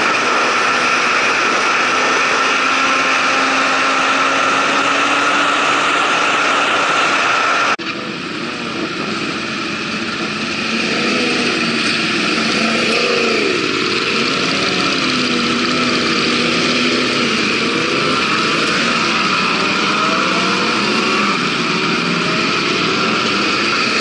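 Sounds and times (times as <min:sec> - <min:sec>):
motorcycle at road speed: 0:00.0 - 0:24.0
motorcycles idling and revving: 0:00.0 - 0:24.0.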